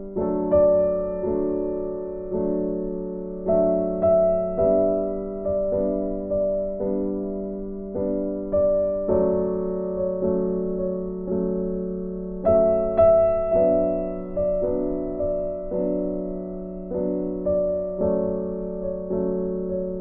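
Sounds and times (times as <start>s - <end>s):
soft piano music: 0.0s - 20.0s.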